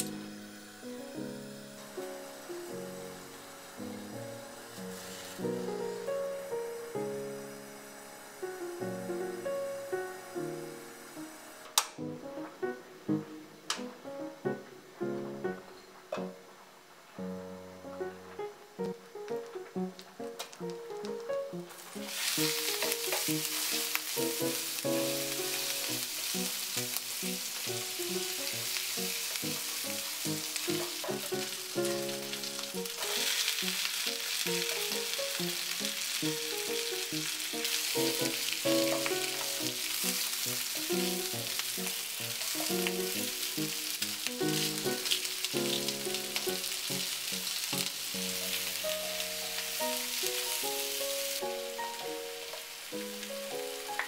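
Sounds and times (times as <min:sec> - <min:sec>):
garlic sizzling in butter: 0:00.0 - 0:12.7, 0:18.1 - 0:54.0
cabbage frying and stirred: 0:00.0 - 0:54.0
light background music: 0:00.0 - 0:54.0.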